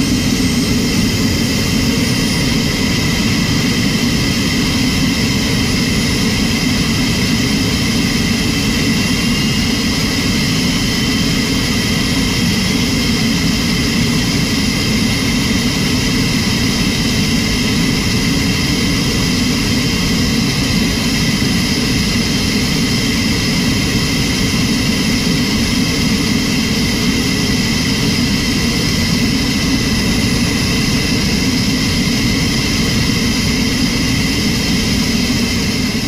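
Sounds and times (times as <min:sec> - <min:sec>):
helicopter engines and rotor running: 0:00.0 - 0:36.0.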